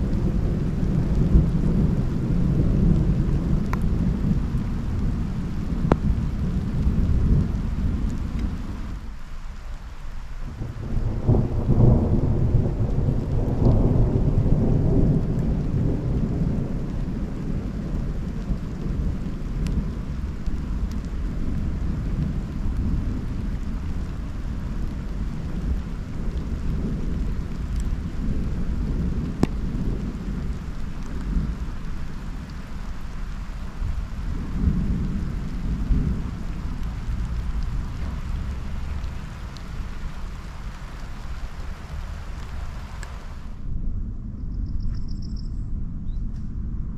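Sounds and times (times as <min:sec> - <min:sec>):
thunder rolling: 0:00.0 - 0:09.1, 0:10.5 - 0:46.9
raindrops ticking: 0:00.0 - 0:43.6
steady rain: 0:00.0 - 0:43.8.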